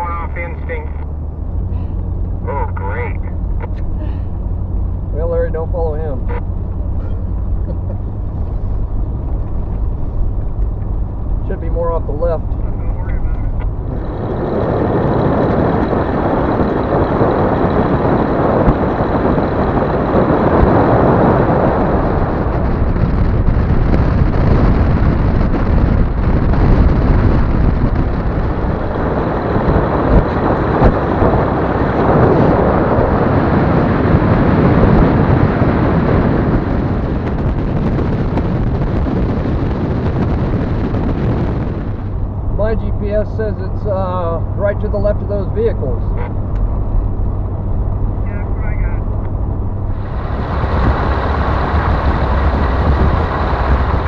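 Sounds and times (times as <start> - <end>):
vehicle road and wind rumble: 0.0 - 54.0.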